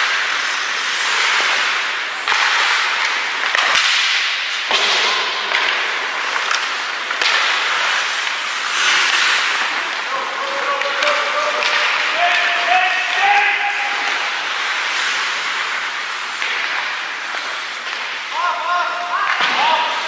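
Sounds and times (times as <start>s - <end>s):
skate blades scraping ice: 0.0s - 20.0s.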